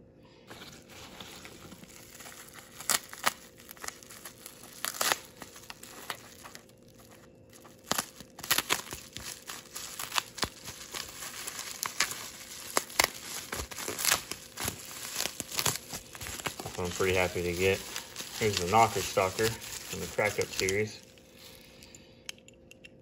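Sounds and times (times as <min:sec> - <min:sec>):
bubble wrap crinkling: 0:00.5 - 0:22.0
packing peanuts rustling: 0:00.5 - 0:22.0.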